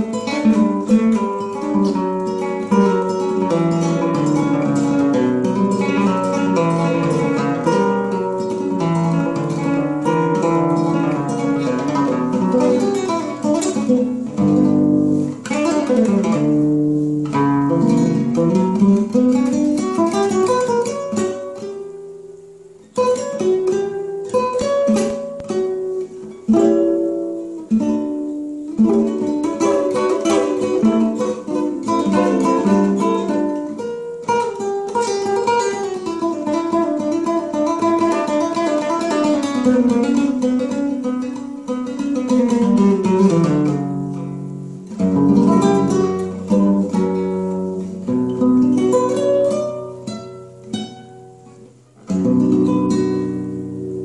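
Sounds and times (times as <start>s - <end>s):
acoustic guitar fingerstyle: 0.0s - 54.0s.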